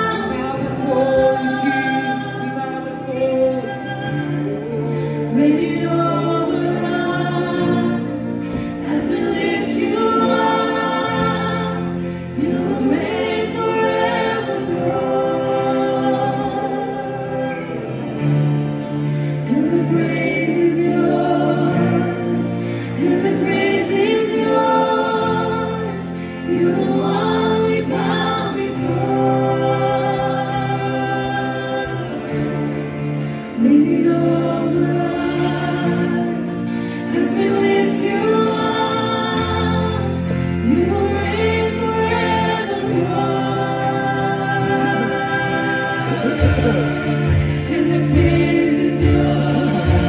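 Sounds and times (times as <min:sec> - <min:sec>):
worship band with singers: 0:00.0 - 0:50.0.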